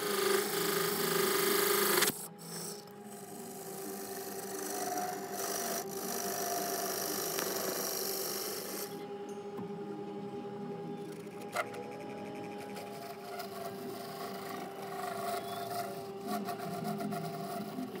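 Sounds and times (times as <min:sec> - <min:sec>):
chisel scraping spinning wood: 0:00.0 - 0:09.0, 0:11.1 - 0:18.0
lathe motor hum: 0:00.0 - 0:18.0.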